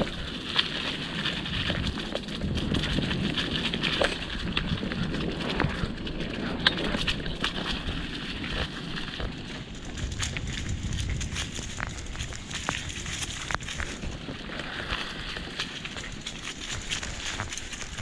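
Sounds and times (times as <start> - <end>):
bicycle tyres rolling over leaves: 0.0 - 18.0.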